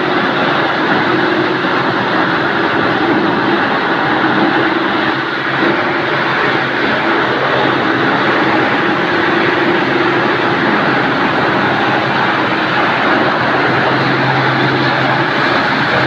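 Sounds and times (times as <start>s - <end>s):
wood chipper droning: 0.0s - 16.0s.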